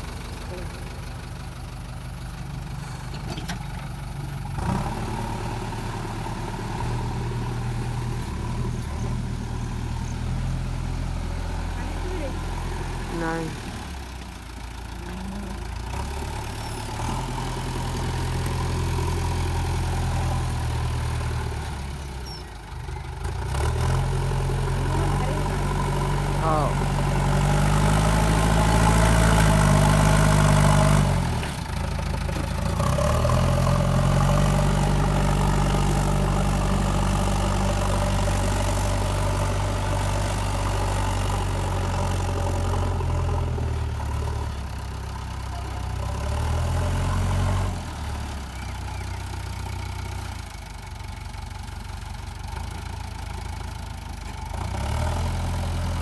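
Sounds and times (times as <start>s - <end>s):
diesel engine revving: 0.0s - 50.8s, 51.4s - 56.0s.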